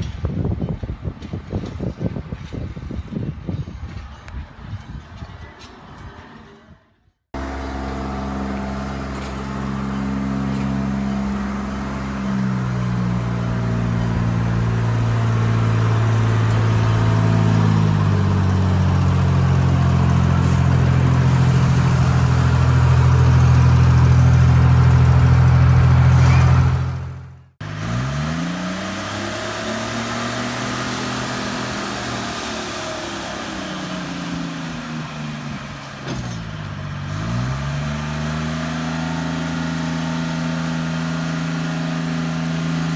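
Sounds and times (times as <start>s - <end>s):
locomotive engine revving: 7.4s - 42.9s.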